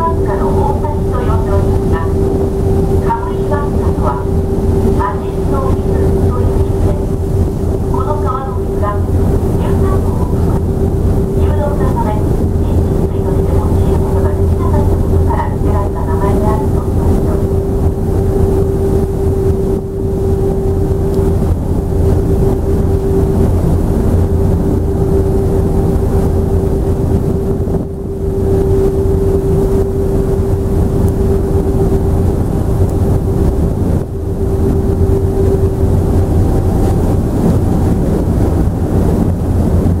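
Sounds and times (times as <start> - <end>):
ship engine droning: 0.0 - 40.0.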